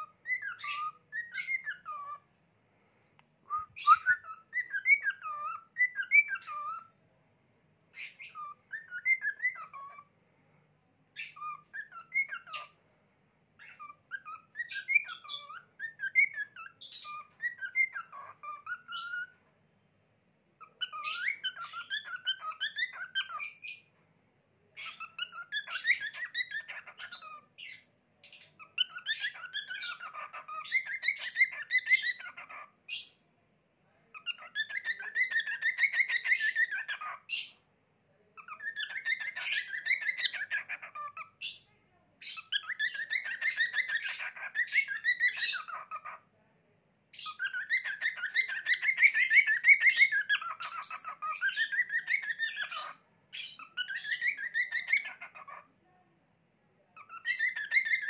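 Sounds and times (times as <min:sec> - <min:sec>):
cockatiel warbling and chattering: 0:00.0 - 0:02.3, 0:03.6 - 0:07.0, 0:07.9 - 0:10.1, 0:11.1 - 0:12.8, 0:13.6 - 0:19.4, 0:20.6 - 0:24.0, 0:24.8 - 0:33.2, 0:34.1 - 0:37.7, 0:38.4 - 0:46.3, 0:47.1 - 0:55.7, 0:57.0 - 0:58.0.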